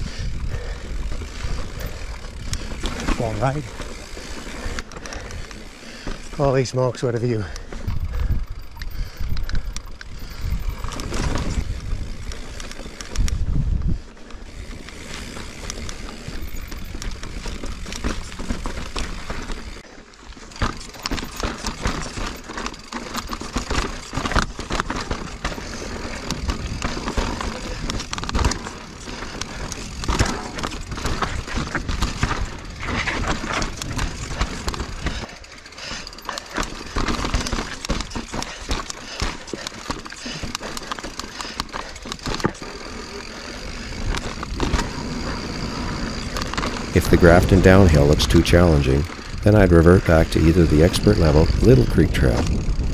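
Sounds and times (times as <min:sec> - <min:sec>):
bike rattling and clattering: 0:00.0 - 0:52.9.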